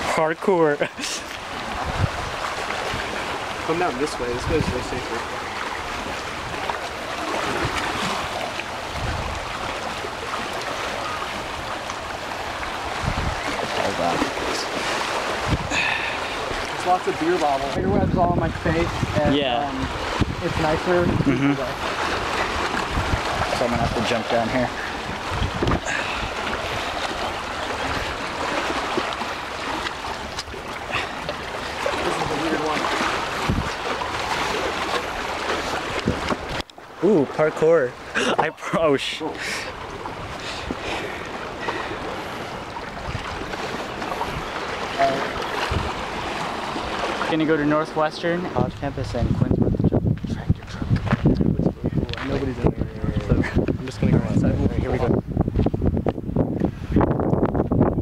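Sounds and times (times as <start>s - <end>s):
lake waves against rocks: 0.0s - 58.0s
wind on microphone: 1.4s - 36.6s, 39.2s - 47.3s, 48.4s - 58.0s.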